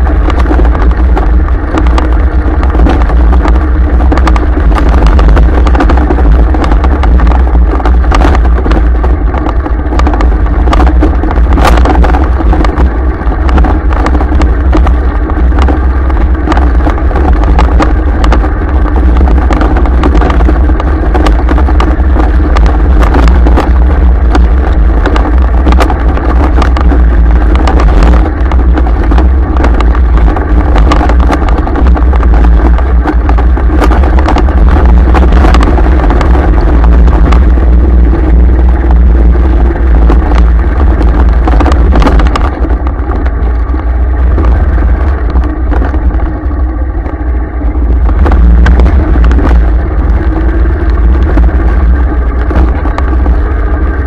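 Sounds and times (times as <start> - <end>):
knocks and rattles: 0.0 - 54.0
vehicle rumbling over dirt track: 0.0 - 54.0.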